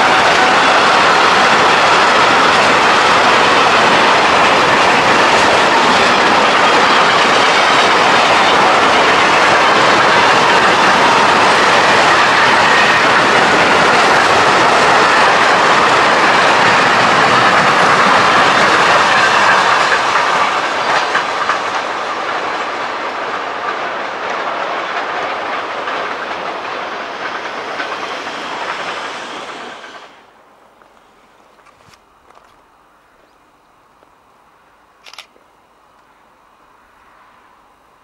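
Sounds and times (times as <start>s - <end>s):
freight train rolling past: 0.0s - 35.0s, 35.7s - 38.0s.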